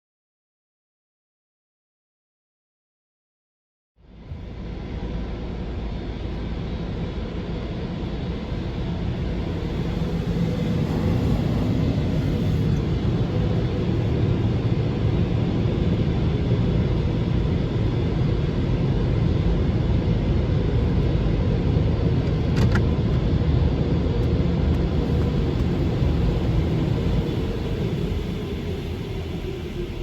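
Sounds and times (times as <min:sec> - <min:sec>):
car wash rumble: 0:04.2 - 0:30.0.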